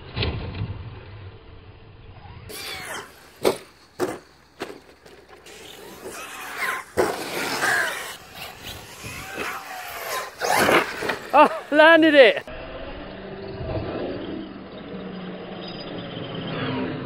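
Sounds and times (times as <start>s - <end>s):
electric motor whining: 2.2s - 16.3s.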